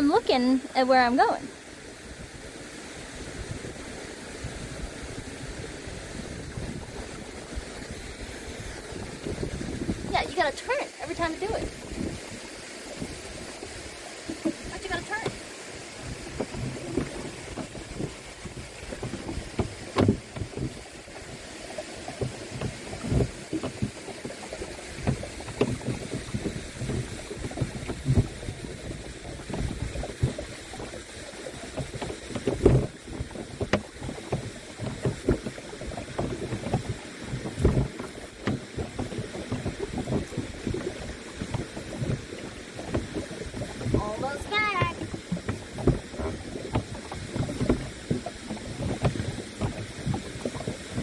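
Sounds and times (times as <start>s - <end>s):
paddle strokes splashing: 0.0s - 51.0s
rushing water: 0.0s - 51.0s
water sloshing against hull: 0.0s - 51.0s
wind on microphone: 2.0s - 51.0s.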